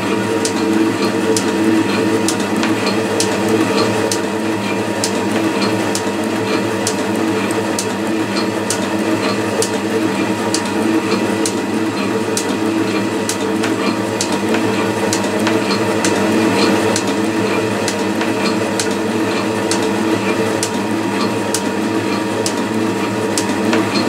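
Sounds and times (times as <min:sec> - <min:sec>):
metal shaper drone: 0:00.0 - 0:24.0.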